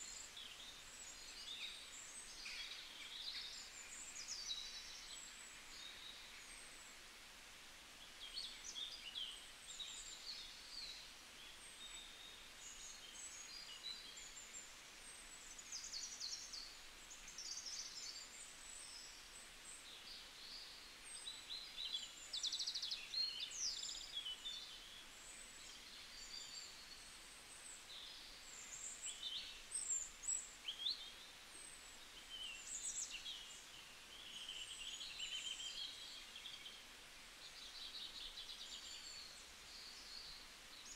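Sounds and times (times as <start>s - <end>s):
faint hiss: 0.0s - 40.9s
small birds chirping: 8.0s - 40.9s.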